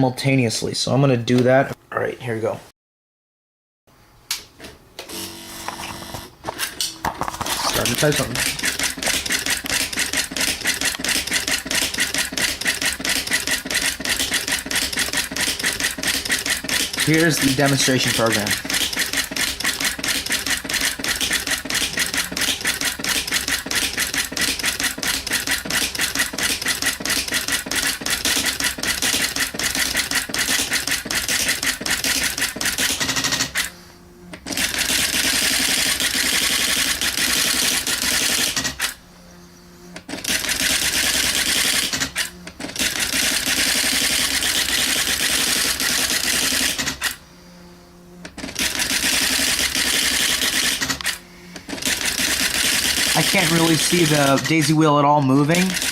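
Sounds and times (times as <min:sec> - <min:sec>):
faint motor hum: 0:03.9 - 0:55.9
typewriter print hammer clatter: 0:07.3 - 0:33.7, 0:34.4 - 0:39.0, 0:40.0 - 0:47.2, 0:48.3 - 0:54.8, 0:55.5 - 0:55.9.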